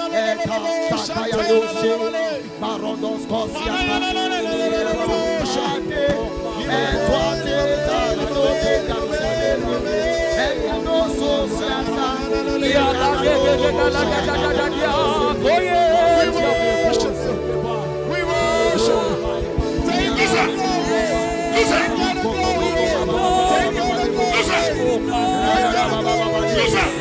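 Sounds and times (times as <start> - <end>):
voices singing gospel: 0.0 - 27.0
fast steady beat: 5.0 - 27.0.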